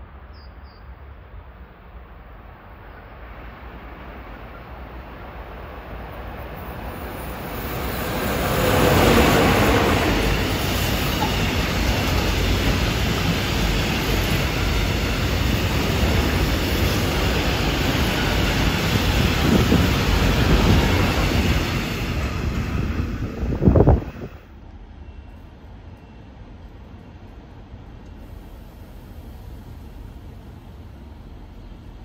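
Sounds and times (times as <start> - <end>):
freight train passing: 0.0 - 32.0
wheels rumbling on rails: 1.3 - 28.4.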